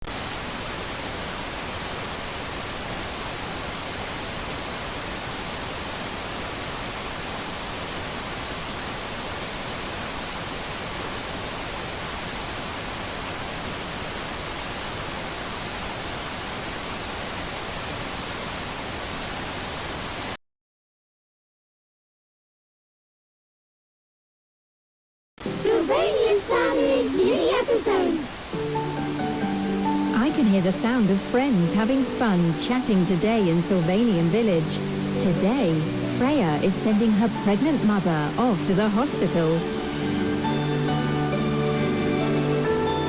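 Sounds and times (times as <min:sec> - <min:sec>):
static hiss: 0:00.0 - 0:20.4, 0:25.4 - 0:43.0.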